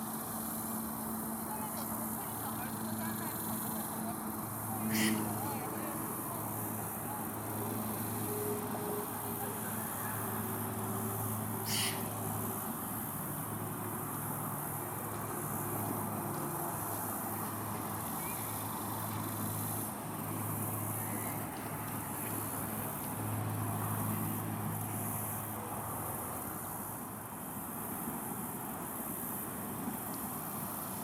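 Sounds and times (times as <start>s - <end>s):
distant road traffic hum: 0.0s - 31.0s.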